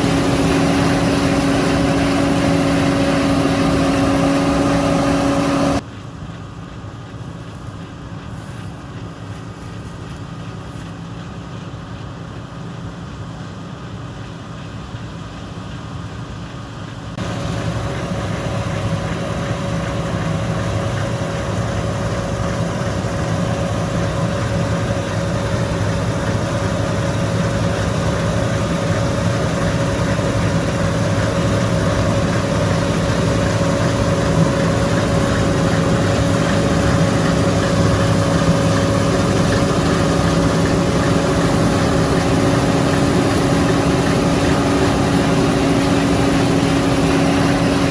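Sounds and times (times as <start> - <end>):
steady whine: 0.0 - 12.1, 15.8 - 47.9
diesel engine droning: 0.0 - 47.9.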